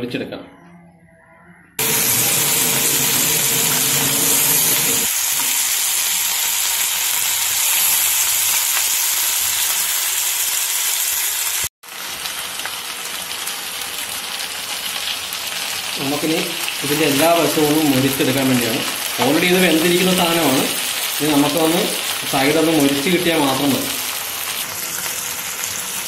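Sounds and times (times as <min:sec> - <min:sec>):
chicken sizzling in hot oil: 0:01.8 - 0:26.0.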